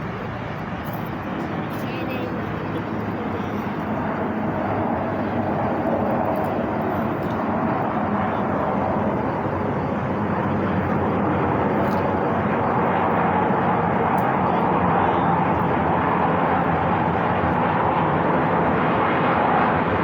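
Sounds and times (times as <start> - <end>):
airplane engine drone: 0.0 - 20.0.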